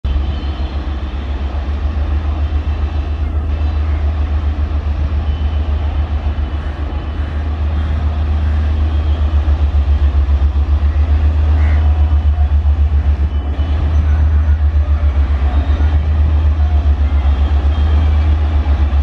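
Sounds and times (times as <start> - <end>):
diesel locomotive engines rumbling: 0.0 - 19.0.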